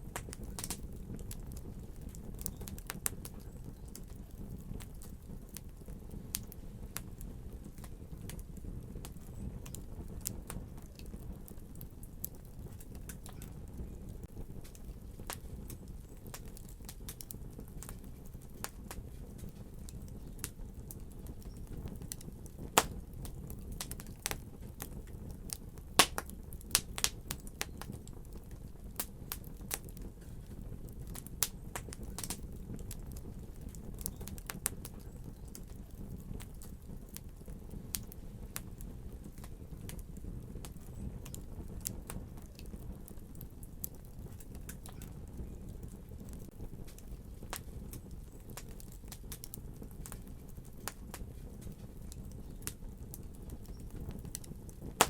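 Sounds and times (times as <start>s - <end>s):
fire crackling and popping: 0.0s - 55.0s
low rumble of burning: 0.0s - 55.0s.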